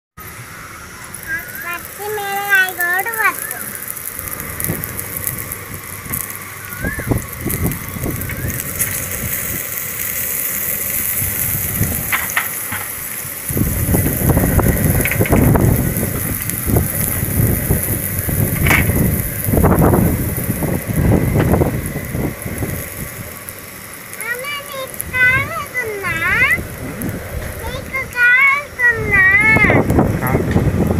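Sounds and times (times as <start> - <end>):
steady high hiss: 0.2 - 30.9
wind buffeting microphone: 1.1 - 23.5, 24.1 - 30.9.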